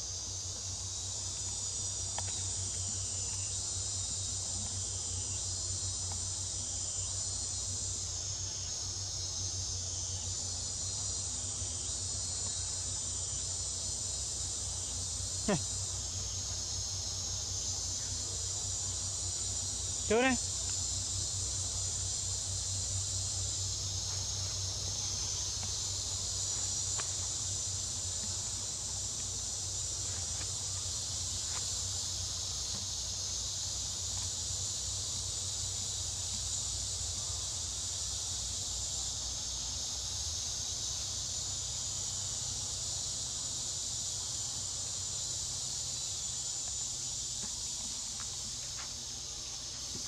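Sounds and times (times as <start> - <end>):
insects buzzing: 0.0 - 50.0.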